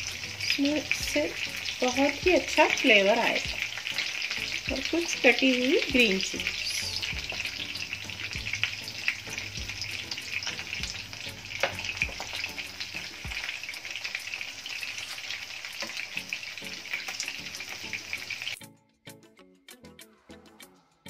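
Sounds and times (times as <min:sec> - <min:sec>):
fish sizzling in hot oil: 0:00.0 - 0:18.6
oil popping and crackling: 0:00.0 - 0:18.6.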